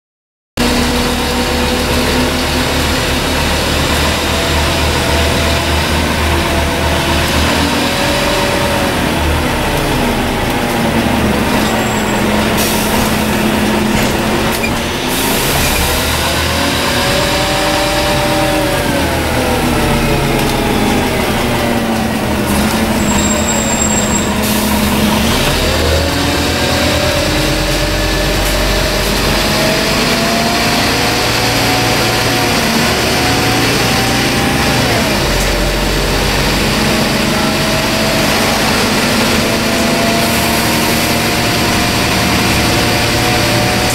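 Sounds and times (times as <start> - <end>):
bus diesel engine: 0.6 - 43.9.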